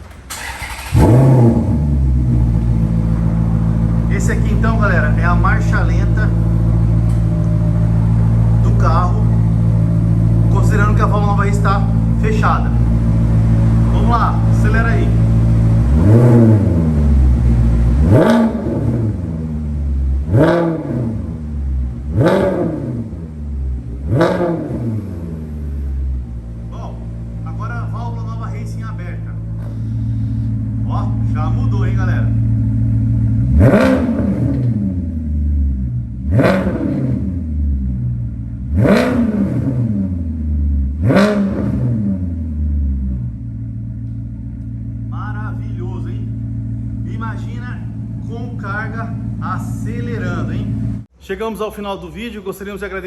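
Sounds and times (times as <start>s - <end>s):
car engine revving: 0.0s - 51.1s.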